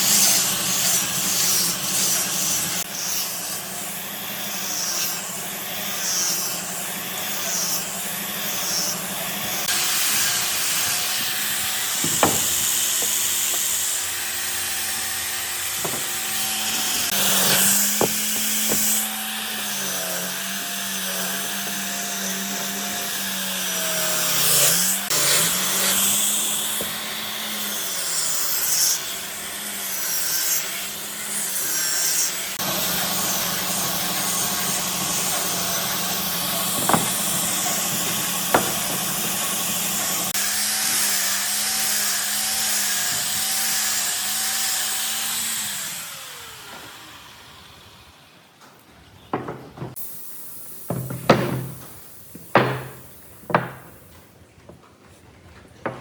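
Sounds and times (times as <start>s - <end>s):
hiss of tool sanding wood: 0.0s - 47.8s
power tool motor humming: 0.0s - 48.1s.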